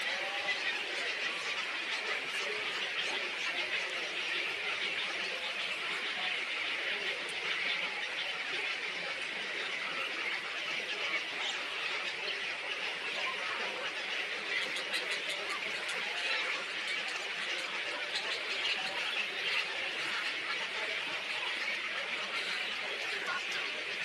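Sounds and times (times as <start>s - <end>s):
small birds twittering: 0.0s - 24.0s.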